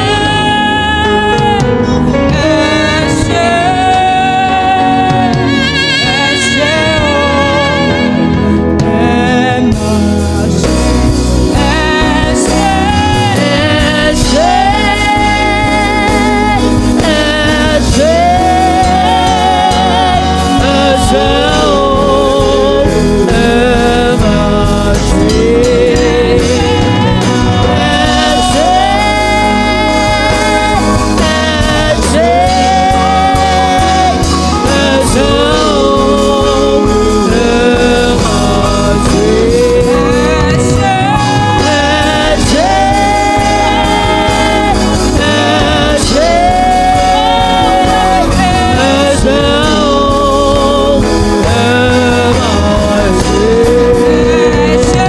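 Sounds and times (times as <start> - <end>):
gospel band playing: 0.0 - 55.0
lead melody with vibrato: 0.0 - 55.0.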